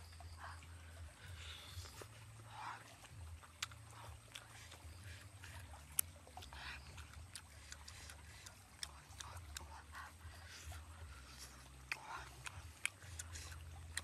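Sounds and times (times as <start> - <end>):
low steady hum: 0.0 - 14.0
person chewing food: 1.2 - 14.0
wet mouth clicks and smacks: 1.7 - 14.0.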